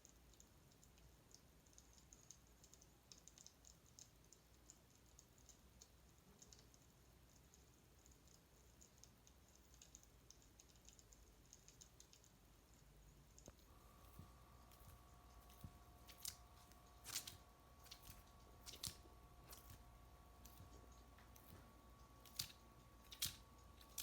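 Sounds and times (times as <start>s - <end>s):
faint rapid clicking: 0.0s - 24.0s.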